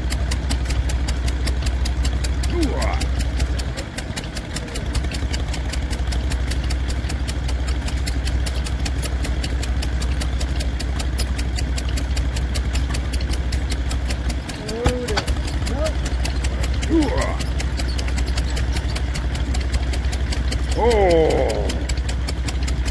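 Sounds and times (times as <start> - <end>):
stationary engine running: 0.0 - 22.9.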